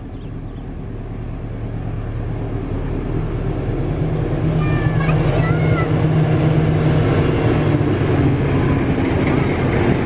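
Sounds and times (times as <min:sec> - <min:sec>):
diesel locomotive engine hum: 0:00.0 - 0:10.0.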